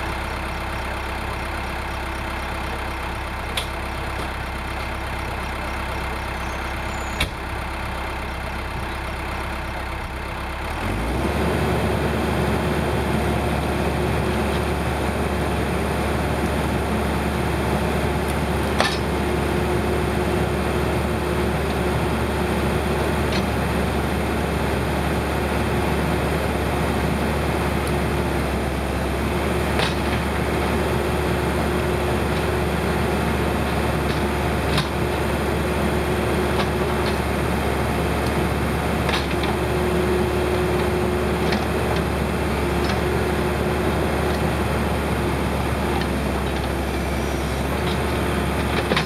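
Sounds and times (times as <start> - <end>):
backhoe diesel engine running: 0.0 - 49.0.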